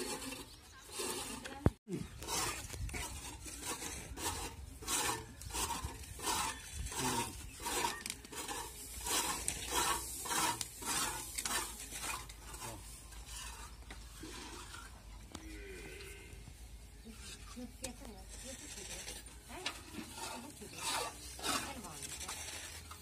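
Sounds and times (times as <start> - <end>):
hand scraping plastic pipe: 0.0 - 15.4, 17.0 - 23.0.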